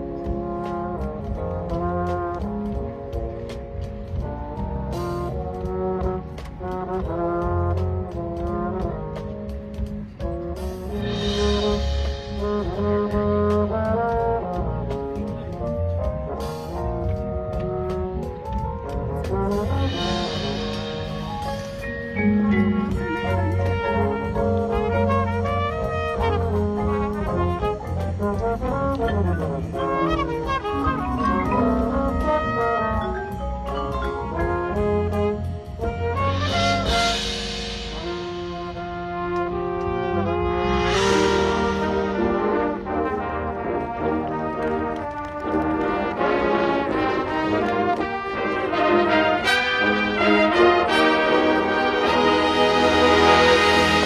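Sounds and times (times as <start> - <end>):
brass line playing chords: 0.0 - 54.0
percussion: 0.0 - 54.0.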